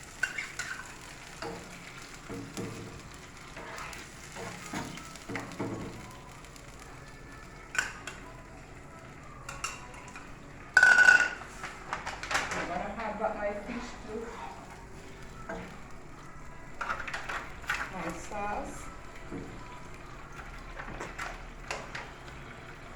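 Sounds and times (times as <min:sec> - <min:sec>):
vegetables sizzling in a pan: 0:00.0 - 0:12.2, 0:13.1 - 0:22.9.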